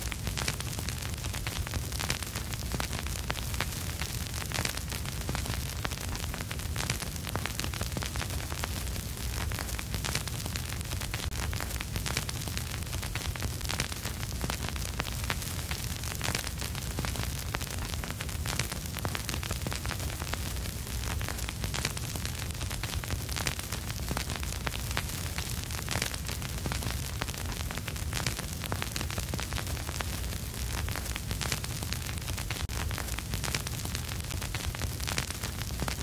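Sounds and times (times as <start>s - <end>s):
vinyl record crackle and hiss: 0.0s - 36.0s.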